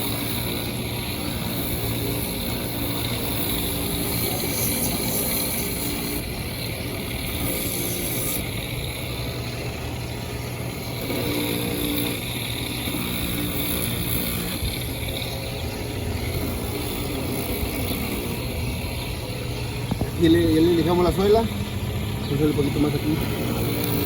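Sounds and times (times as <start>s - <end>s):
sander grinding rubber sole: 0.0s - 24.0s.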